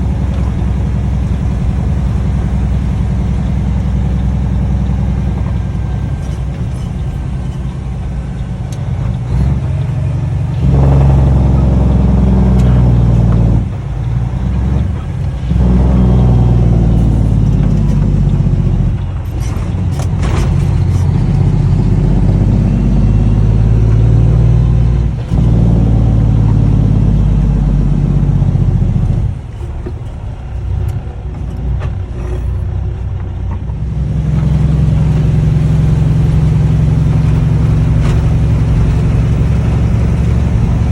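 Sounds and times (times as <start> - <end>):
loud diesel truck engine: 0.0 - 40.9.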